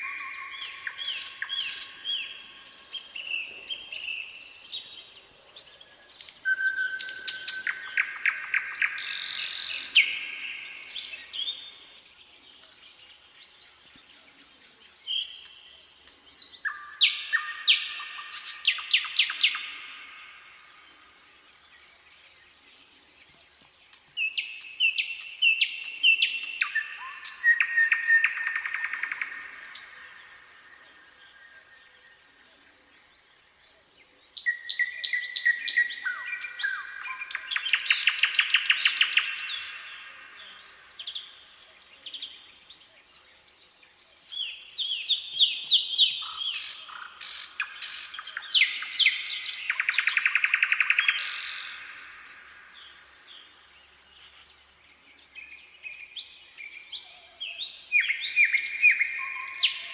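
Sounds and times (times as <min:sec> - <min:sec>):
nightingale singing: 0:00.0 - 0:59.9.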